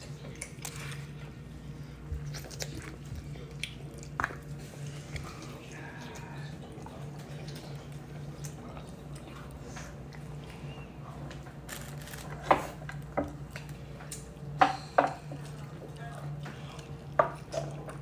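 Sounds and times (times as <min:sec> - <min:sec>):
child chewing: 0:00.0 - 0:18.0
steady low hum: 0:00.0 - 0:18.0.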